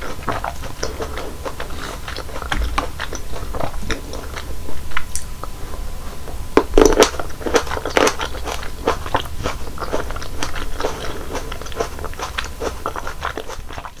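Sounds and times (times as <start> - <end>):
chewing crunchy fruit: 0.0 - 14.0.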